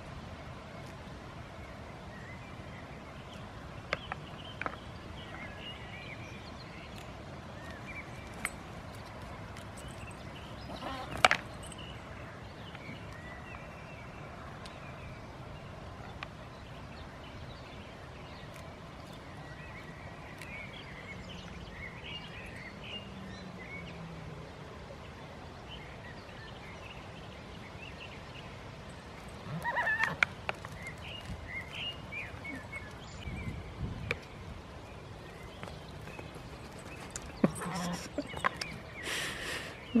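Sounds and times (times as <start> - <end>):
outdoor background hiss: 0.0 - 40.0.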